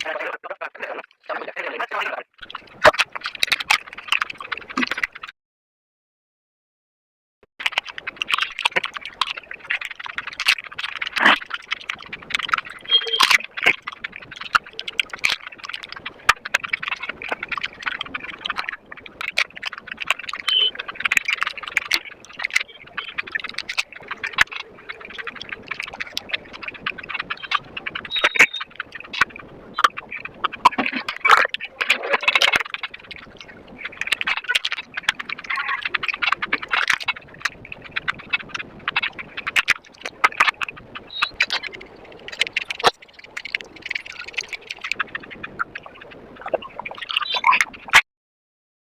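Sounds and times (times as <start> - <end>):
rapid crunching and chewing: 0.0 - 5.3, 7.6 - 48.0.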